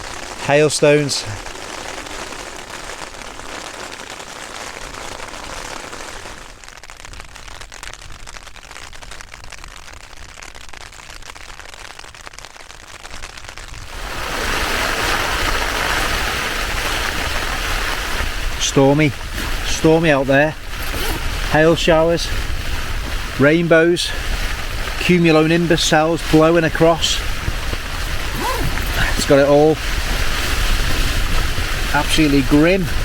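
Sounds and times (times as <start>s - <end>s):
hail rattling on tent fabric: 0.0s - 33.0s.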